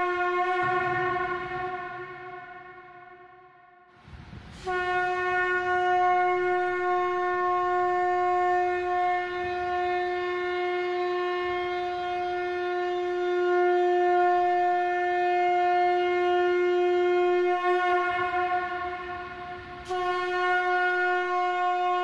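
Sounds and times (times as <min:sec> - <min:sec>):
conch shell blown: 0:00.0 - 0:22.0.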